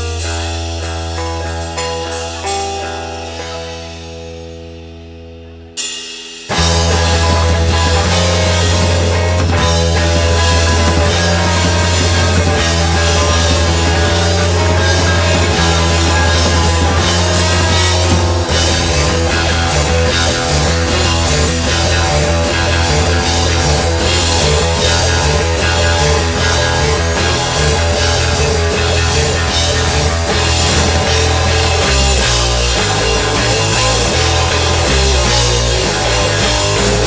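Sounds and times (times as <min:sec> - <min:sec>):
drum kit: 0:00.0 - 0:37.0
electric guitar: 0:00.0 - 0:37.0.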